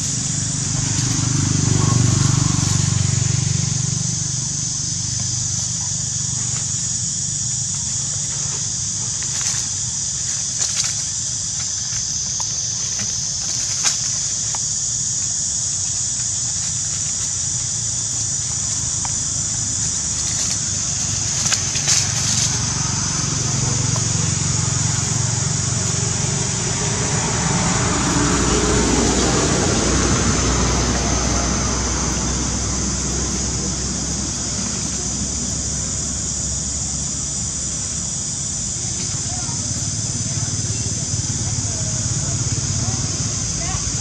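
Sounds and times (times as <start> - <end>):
dry leaves crackling: 0.0 - 44.0
high-pitched insect drone: 0.0 - 44.0.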